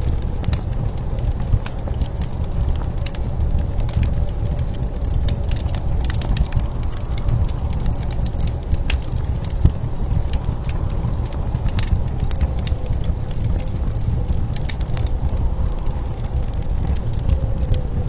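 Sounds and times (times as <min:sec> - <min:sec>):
low rumble of blizzard wind: 0:00.0 - 0:18.0
wood fire crackling and popping: 0:00.0 - 0:18.0.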